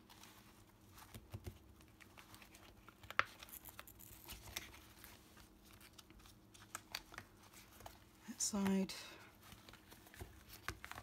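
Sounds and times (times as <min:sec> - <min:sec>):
soft plastic crinkling: 0:00.0 - 0:11.0.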